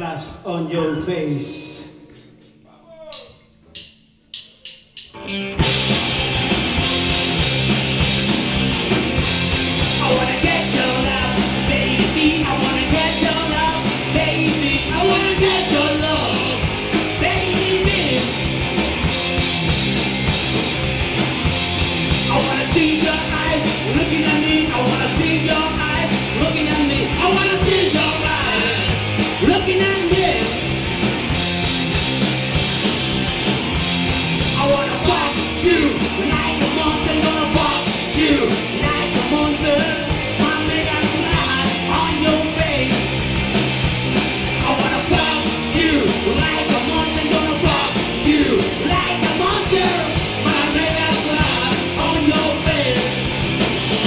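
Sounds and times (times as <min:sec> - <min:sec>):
drum kit: 0:01.6 - 0:54.0
bass guitar: 0:05.0 - 0:54.0
distorted electric guitars: 0:05.0 - 0:54.0.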